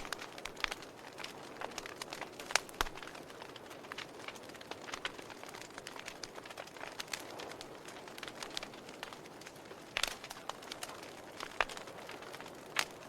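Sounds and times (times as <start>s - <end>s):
soft fire hiss: 0.0s - 13.0s
wood fire crackling and popping: 0.0s - 13.0s.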